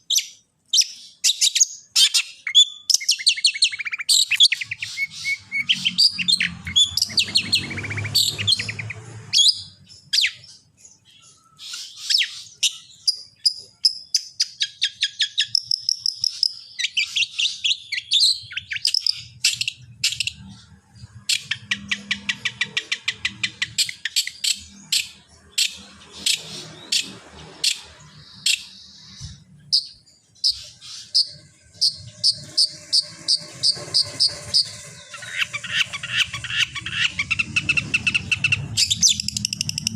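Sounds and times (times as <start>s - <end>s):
shrike singing: 1.0s - 39.9s.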